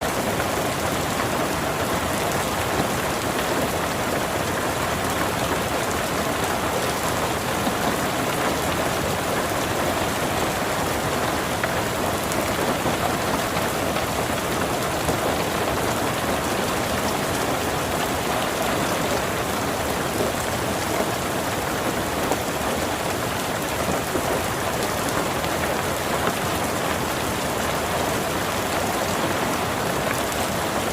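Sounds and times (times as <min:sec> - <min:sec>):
rain pattering on surfaces: 0:00.0 - 0:30.9.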